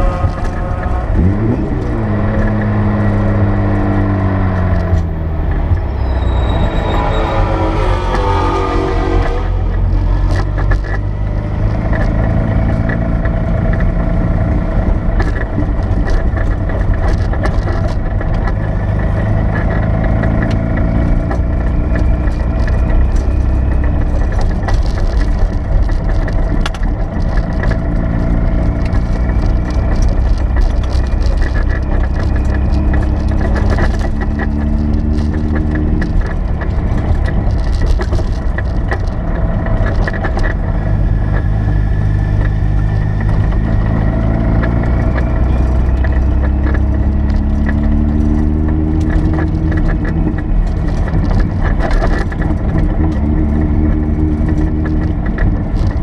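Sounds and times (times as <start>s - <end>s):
small clicks and rattles: 10.1s - 56.0s.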